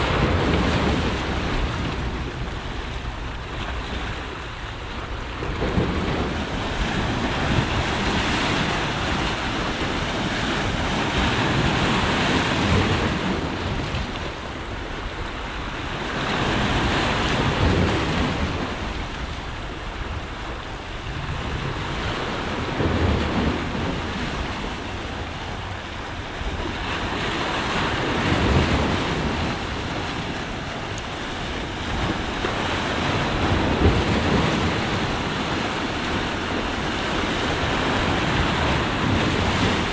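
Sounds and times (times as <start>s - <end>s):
sea waves washing ashore: 0.0s - 39.9s
wind buffeting microphone: 0.0s - 39.9s.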